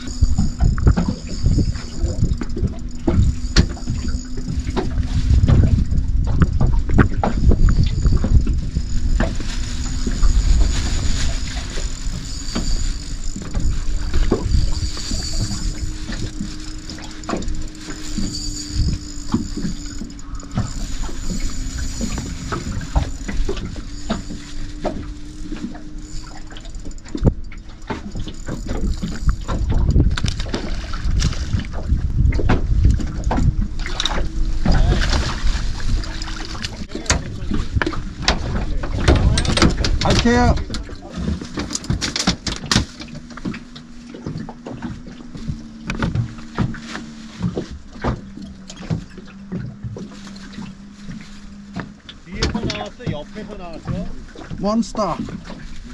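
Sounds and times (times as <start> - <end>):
fishing gear knocking: 0.0 - 55.6
low hum: 0.0 - 55.9
water slapping boat hull: 0.0 - 55.9.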